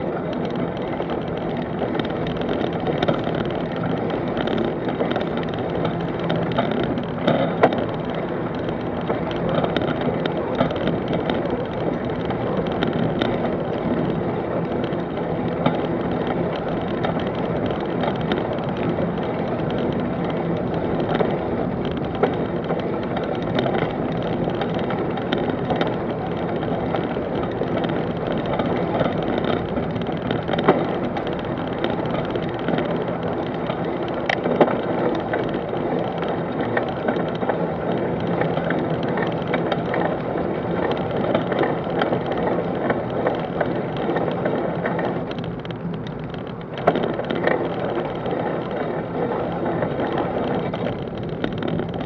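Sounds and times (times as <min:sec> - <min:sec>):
bicycle tyres rumbling on dirt: 0:00.0 - 0:52.0
bike rattling: 0:00.0 - 0:52.0.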